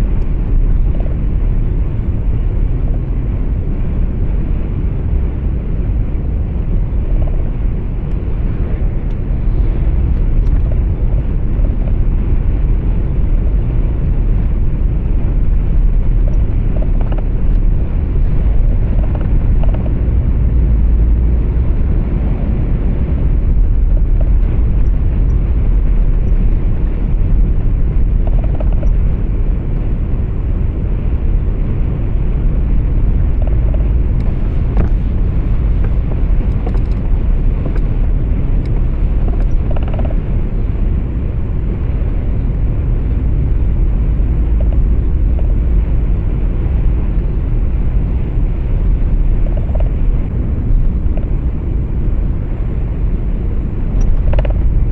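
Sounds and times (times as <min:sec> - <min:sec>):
truck engine rumble: 0:00.0 - 0:54.9.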